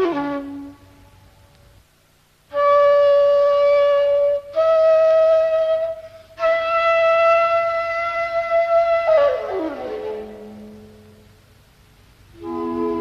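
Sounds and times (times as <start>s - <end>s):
slow solo flute: 0.0s - 1.5s, 2.5s - 11.3s, 12.3s - 13.0s.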